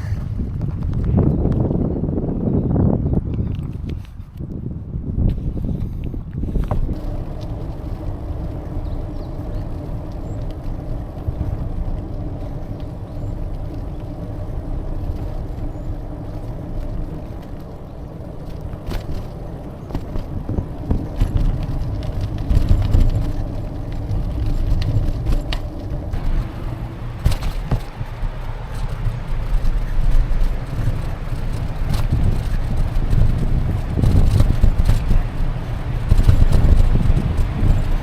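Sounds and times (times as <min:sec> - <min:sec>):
wind and road rumble: 0:00.0 - 0:38.0
bicycle clicks and knocks: 0:05.2 - 0:38.0.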